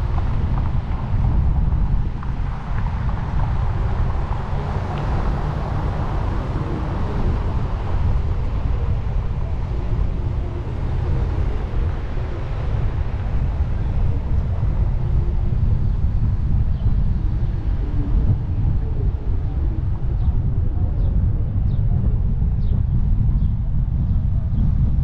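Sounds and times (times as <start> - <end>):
road and tyre noise: 0.0 - 25.0
wind rumbling on microphone: 0.0 - 25.0.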